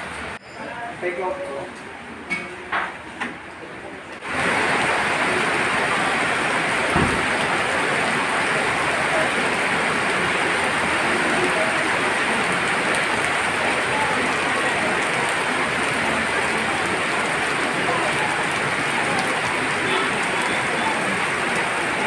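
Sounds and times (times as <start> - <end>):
heavy rain hissing: 4.2 - 22.0.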